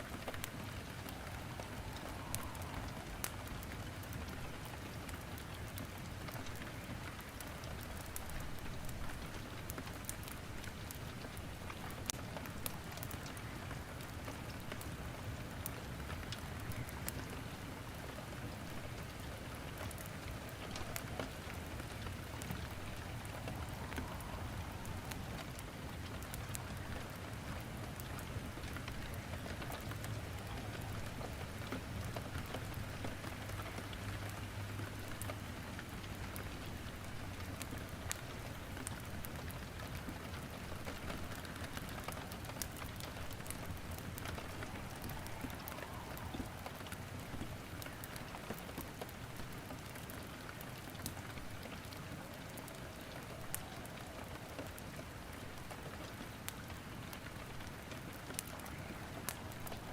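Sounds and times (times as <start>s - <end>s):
firewood crackling in a fireplace: 0.0s - 59.9s
steady rain: 0.0s - 59.9s.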